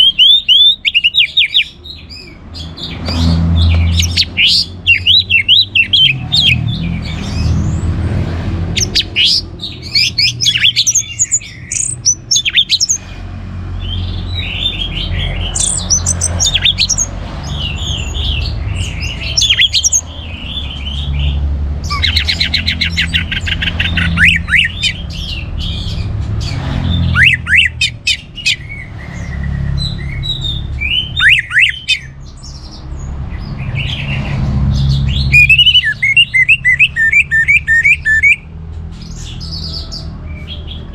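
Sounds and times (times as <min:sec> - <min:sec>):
thrush singing: 0:00.0 - 0:38.5.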